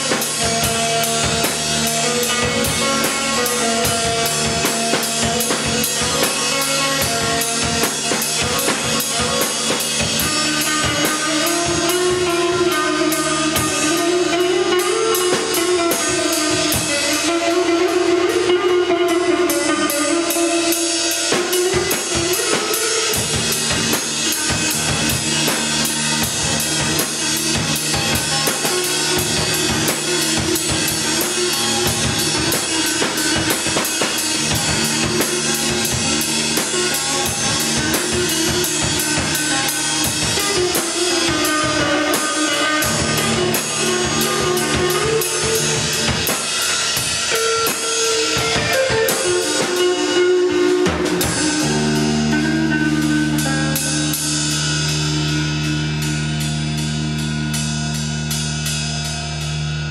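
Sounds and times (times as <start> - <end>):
drum kit playing: 0.0 - 59.9
guitar held notes: 0.0 - 59.9.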